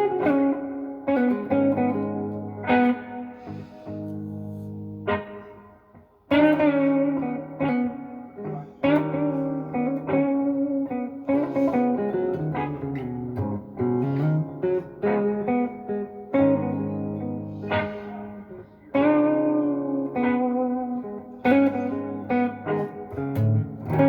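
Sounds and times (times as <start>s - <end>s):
slow blues electric guitar: 0.0s - 24.0s.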